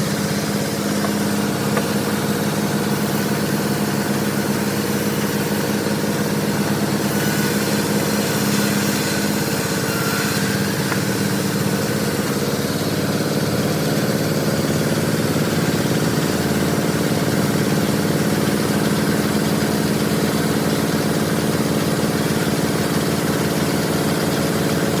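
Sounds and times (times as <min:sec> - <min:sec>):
sawmill machinery droning: 0:00.0 - 0:25.0.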